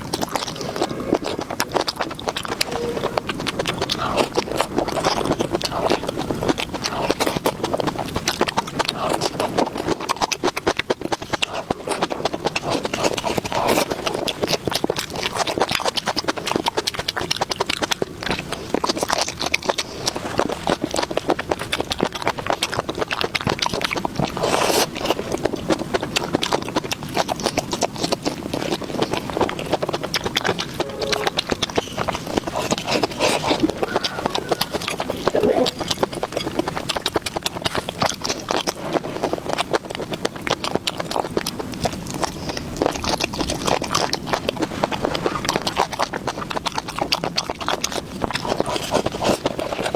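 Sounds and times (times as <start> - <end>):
chewing food: 0.0 - 49.9.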